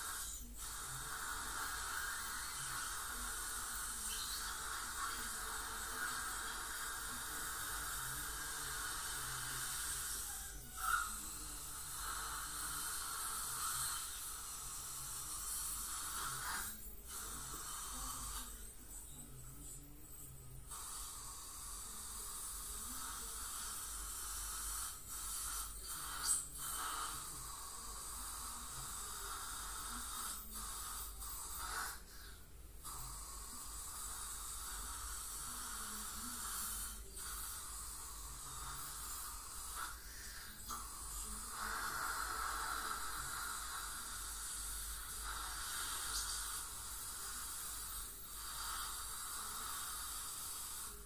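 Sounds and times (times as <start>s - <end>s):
dental scaler hissing: 0.0s - 51.0s.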